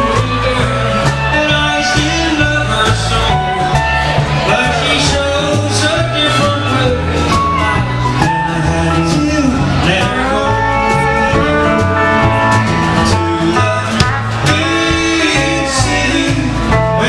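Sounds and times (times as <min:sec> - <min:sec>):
rockabilly band with guitar and singing: 0:00.0 - 0:17.0.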